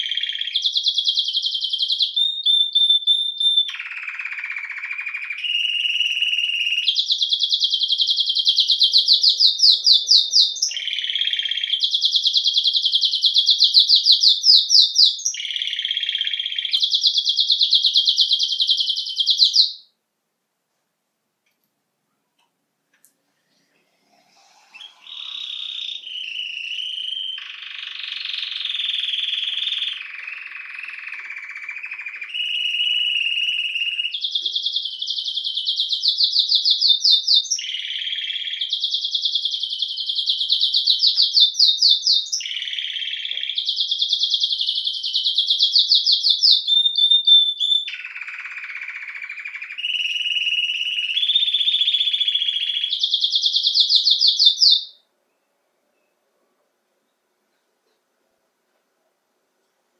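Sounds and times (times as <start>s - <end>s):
canary singing: 0.0s - 20.0s, 23.8s - 56.2s.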